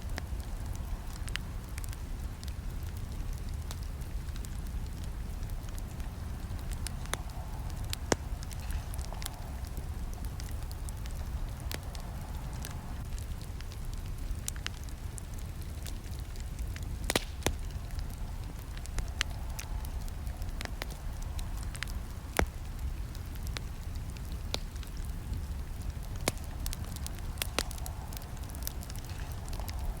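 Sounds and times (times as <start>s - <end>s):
campfire crackles and pops: 0.0s - 30.0s
low rumble of flames: 0.0s - 30.0s.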